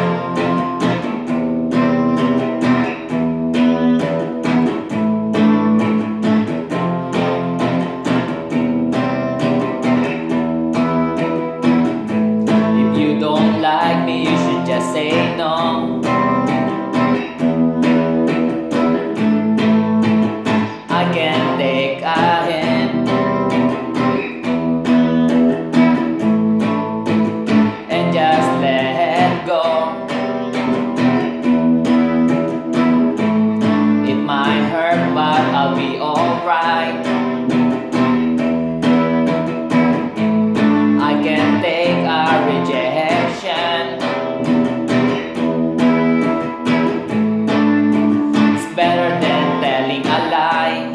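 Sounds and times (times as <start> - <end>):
electric guitar melody: 0.0 - 50.9.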